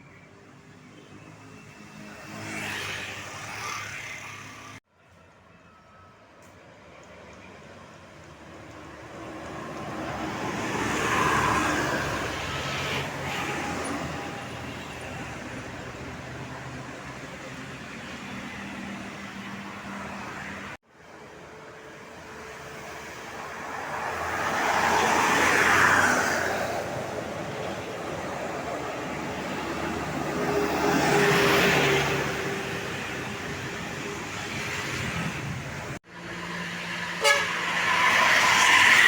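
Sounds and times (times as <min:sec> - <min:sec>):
vehicles driving past: 0:00.4 - 0:39.0.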